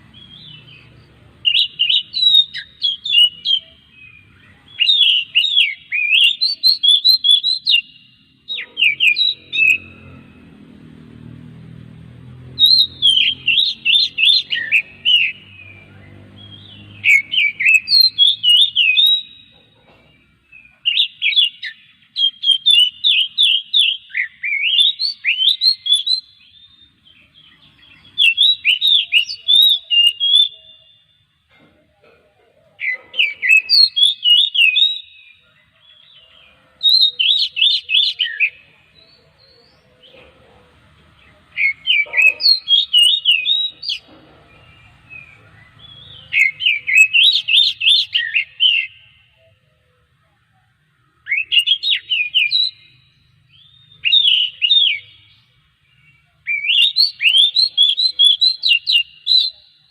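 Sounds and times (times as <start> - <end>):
bird singing whistled notes: 0.0 - 10.5, 12.5 - 31.3, 32.8 - 40.1, 41.3 - 49.6, 51.1 - 59.9.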